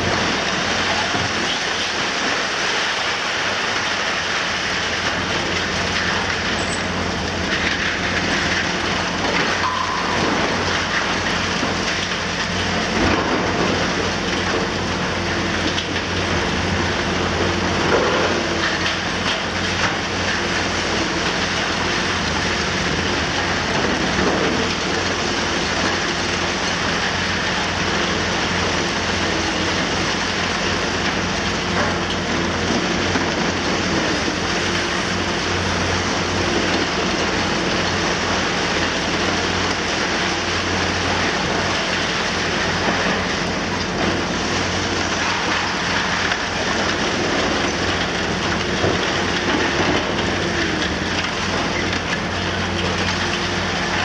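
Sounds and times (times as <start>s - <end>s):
excavator diesel engine running: 0.0s - 54.0s
falling concrete and debris: 0.0s - 54.0s.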